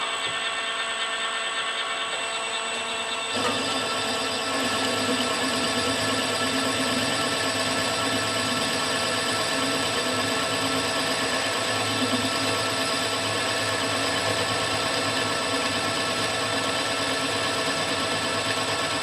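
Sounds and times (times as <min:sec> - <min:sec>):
milling machine whining: 0:00.0 - 0:19.0.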